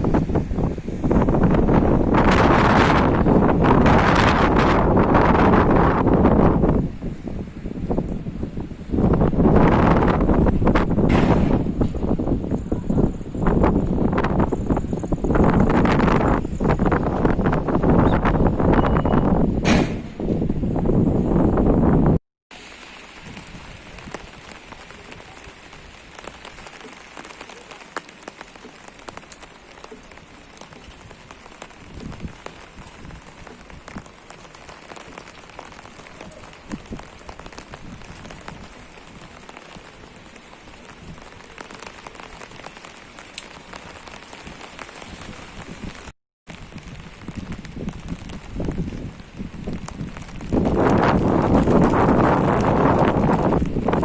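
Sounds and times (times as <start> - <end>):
steady rain falling: 0.0 - 19.6, 20.2 - 54.0.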